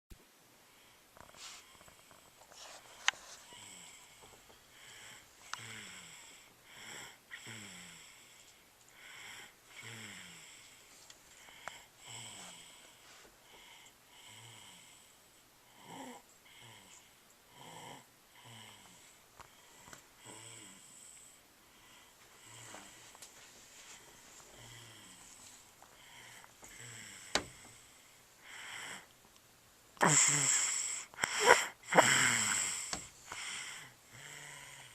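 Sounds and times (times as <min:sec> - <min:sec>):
soft snoring: 0:00.8 - 0:29.1, 0:30.0 - 0:34.9.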